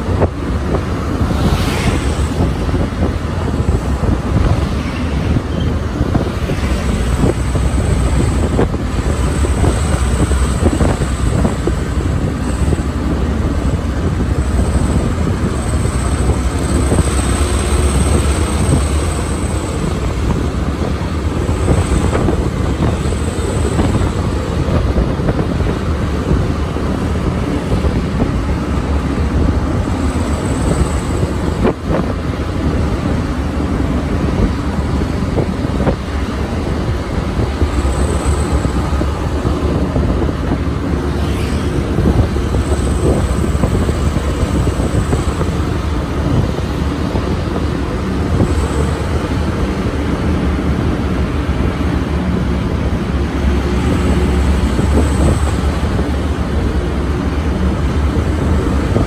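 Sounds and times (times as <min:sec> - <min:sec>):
vehicles driving on road: 0:00.0 - 0:59.0
wind buffeting microphone: 0:00.0 - 0:59.0.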